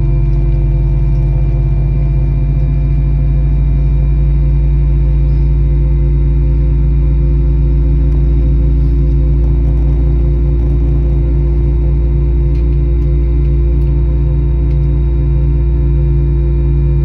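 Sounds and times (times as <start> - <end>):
whining tones: 0.0 - 15.8
airplane cabin drone: 0.0 - 17.0.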